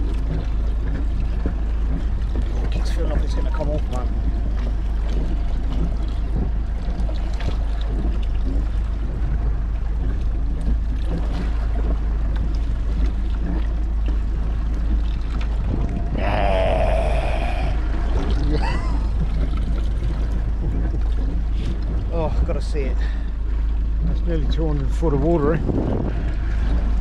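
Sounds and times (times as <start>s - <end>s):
sea noise: 0.0s - 27.0s
wind buffeting microphone: 0.0s - 27.0s.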